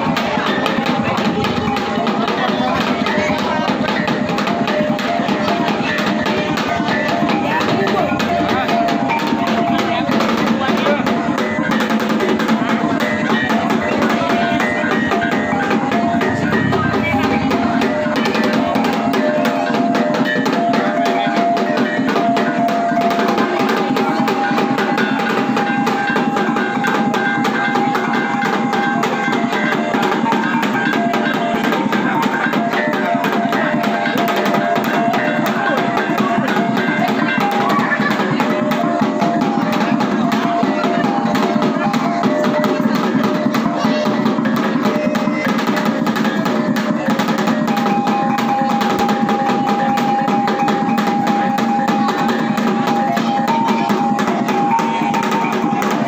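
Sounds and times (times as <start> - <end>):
large hanging gongs beat: 0.0 - 56.0
small gongs ringing melody: 0.0 - 56.0.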